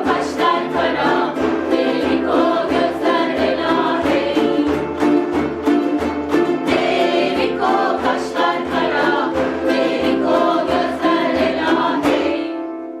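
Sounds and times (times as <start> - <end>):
group of voices singing: 0.0 - 5.3, 6.4 - 12.7
strummed ukulele chords: 0.0 - 13.0.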